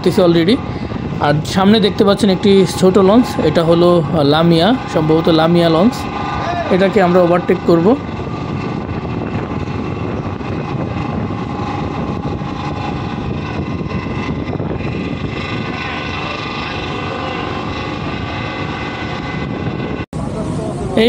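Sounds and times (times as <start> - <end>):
faint steady tones: 0.0 - 20.1
ferry engines droning: 0.0 - 21.0.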